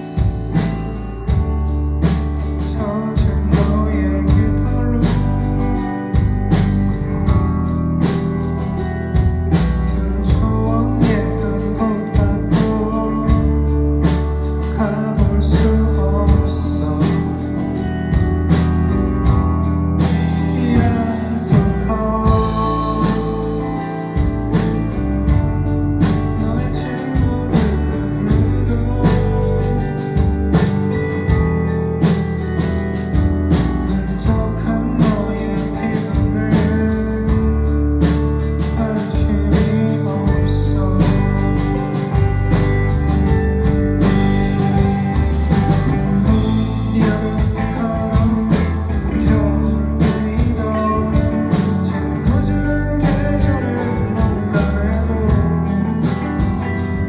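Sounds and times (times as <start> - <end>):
bass guitar: 0.0 - 57.0
drums keeping a steady beat: 0.0 - 57.0
guitars: 0.0 - 57.0.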